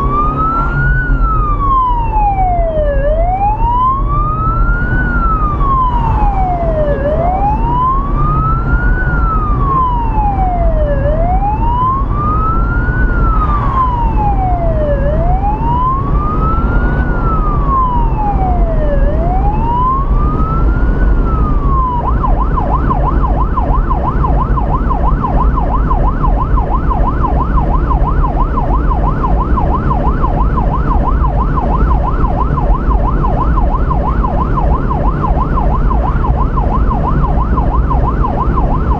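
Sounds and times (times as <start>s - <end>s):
police siren wailing and yelping: 0.0s - 38.9s
road and engine noise: 0.0s - 38.9s.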